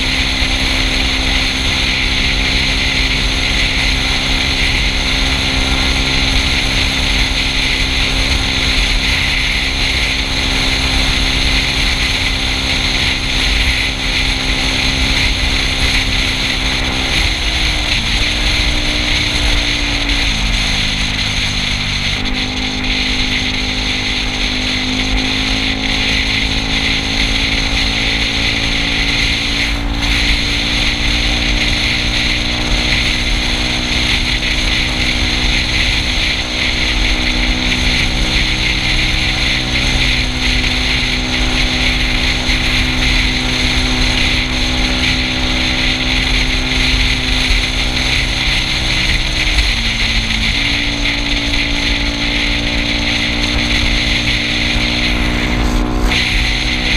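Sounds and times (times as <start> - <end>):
scooter engine running: 0.0 - 56.9
wind and road noise: 0.0 - 56.9.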